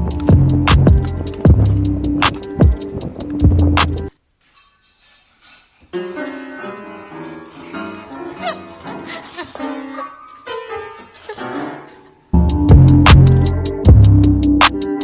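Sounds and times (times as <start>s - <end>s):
piano background music: 0.0s - 4.1s, 5.9s - 15.0s.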